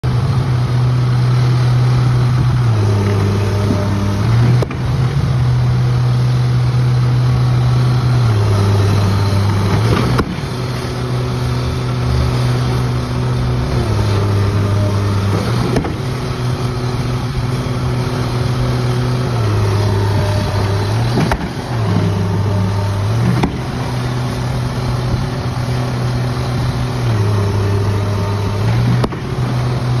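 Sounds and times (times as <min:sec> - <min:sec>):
diesel truck engine: 0:00.0 - 0:30.0.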